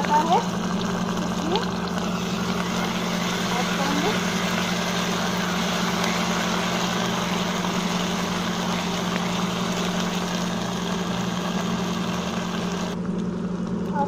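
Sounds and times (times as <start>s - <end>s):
onions sizzling in hot oil: 0.0s - 13.0s
steady low hum: 0.0s - 14.0s.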